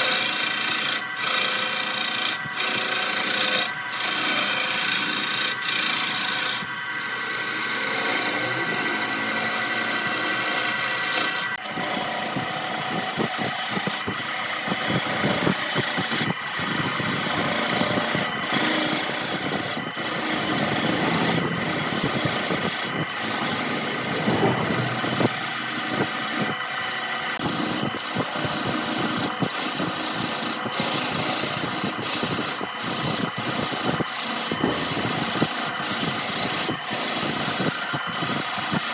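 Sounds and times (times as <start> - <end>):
gouge scraping spinning wood: 0.0 - 38.9
lathe motor humming: 0.0 - 38.9.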